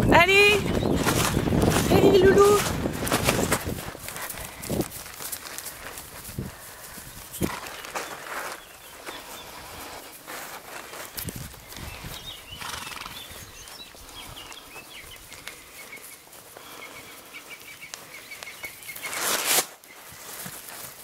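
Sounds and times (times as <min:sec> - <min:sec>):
hoof thuds on grass: 0:00.5 - 0:16.7, 0:17.8 - 0:21.0.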